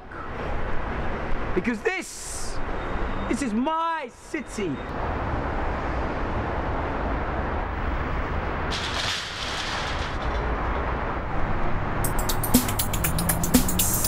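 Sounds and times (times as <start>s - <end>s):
distant city traffic rumble: 0.0s - 14.0s.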